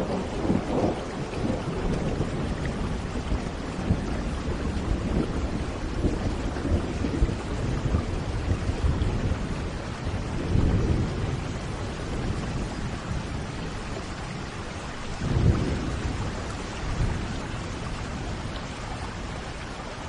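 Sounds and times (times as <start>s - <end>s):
rolling thunder: 0.0s - 19.5s
steady rain: 0.0s - 20.0s.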